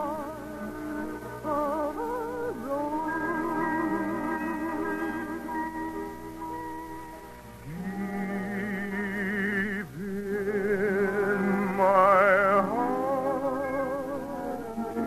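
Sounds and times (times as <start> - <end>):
operatic singing: 0.0 - 6.0, 7.6 - 15.0.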